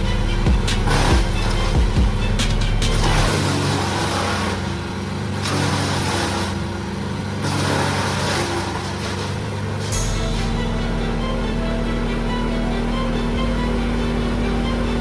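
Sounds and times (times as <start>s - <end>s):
wood chipper diesel engine: 0.0s - 15.0s
wood chipper rushing noise: 0.0s - 15.0s.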